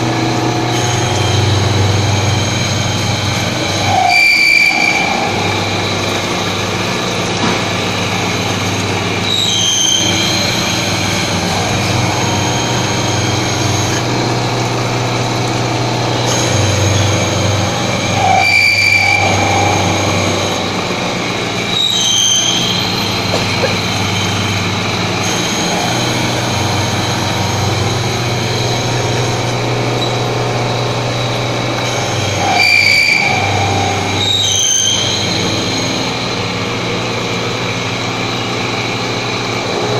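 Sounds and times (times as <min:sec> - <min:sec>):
high cutter squeals: 0:00.0 - 0:39.9
low hum: 0:00.0 - 0:39.9
milling machine whine: 0:00.0 - 0:39.9.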